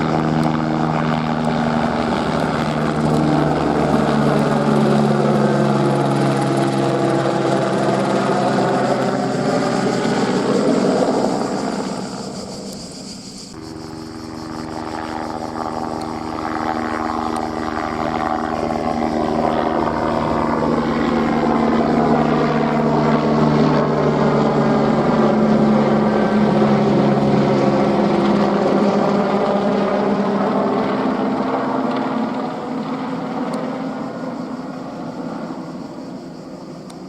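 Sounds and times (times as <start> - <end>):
helicopter flying past: 0.0 - 37.0.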